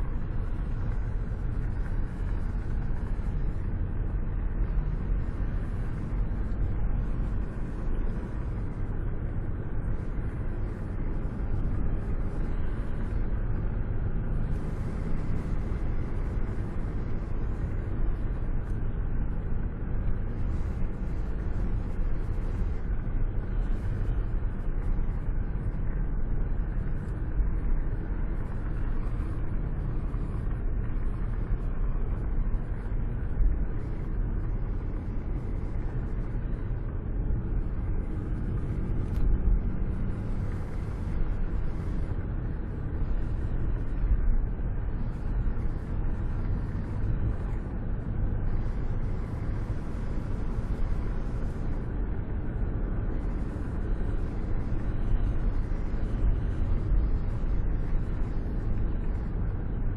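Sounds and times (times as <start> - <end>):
wind and road noise rumble: 0.0 - 59.9.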